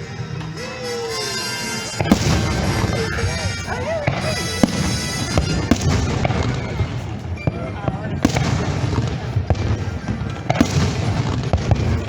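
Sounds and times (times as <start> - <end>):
firework bangs: 0.0 - 12.0
fireworks show music: 0.0 - 12.0.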